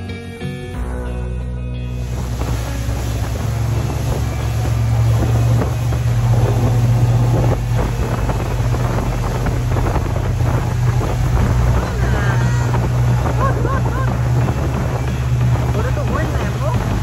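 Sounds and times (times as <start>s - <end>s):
speedboat engine droning: 0.8s - 17.0s
wind buffeting microphone: 2.0s - 17.0s.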